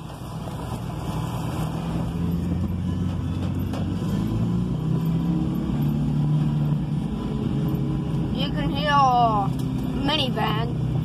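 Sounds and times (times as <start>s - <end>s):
engine and road noise: 0.0s - 11.0s.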